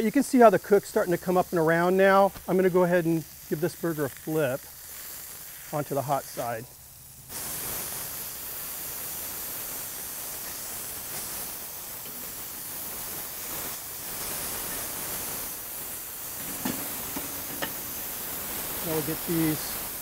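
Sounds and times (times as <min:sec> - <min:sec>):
burger patties sizzling on a griddle: 0:00.0 - 0:20.0.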